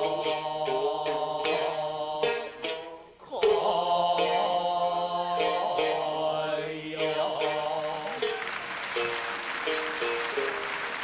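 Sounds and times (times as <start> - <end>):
plucked shamisen notes: 0.0 - 11.0.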